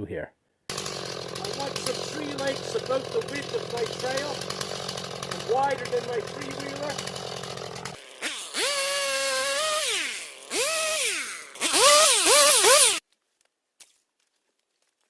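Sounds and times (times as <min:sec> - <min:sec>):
chainsaw cutting wood: 0:00.7 - 0:13.0.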